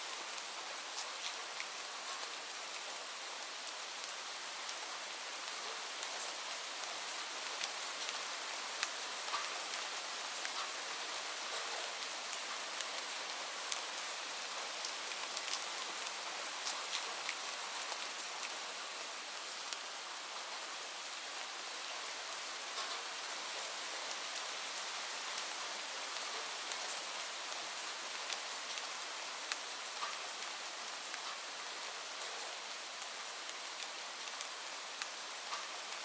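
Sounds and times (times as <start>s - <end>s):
rain falling on leaves: 0.0s - 36.0s.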